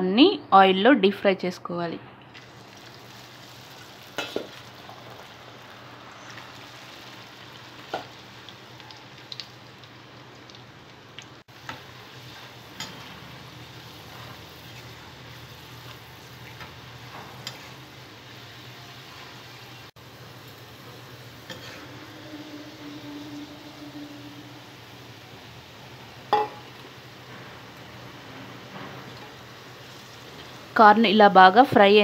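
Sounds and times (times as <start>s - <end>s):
corn deep frying in oil: 2.3s - 22.6s, 25.1s - 32.0s.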